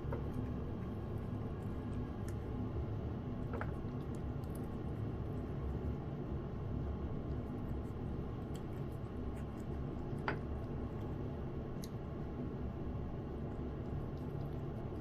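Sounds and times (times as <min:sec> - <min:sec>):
cat chewing and licking: 0:00.0 - 0:15.0
low background hum: 0:00.0 - 0:15.0.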